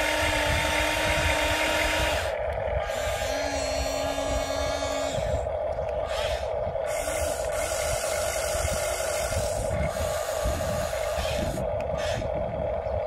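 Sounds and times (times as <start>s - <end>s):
electric motors whining: 0.0s - 13.0s
rasping mechanical noise: 0.0s - 13.0s.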